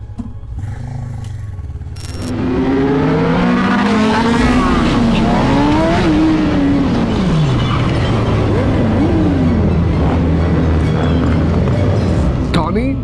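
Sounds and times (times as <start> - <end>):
motorcycle engines accelerating: 2.0 - 12.6.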